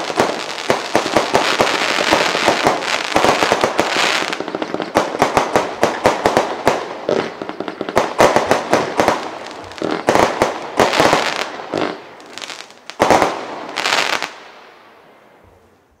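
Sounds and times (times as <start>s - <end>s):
fireworks bangs and crackling: 0.0s - 15.6s.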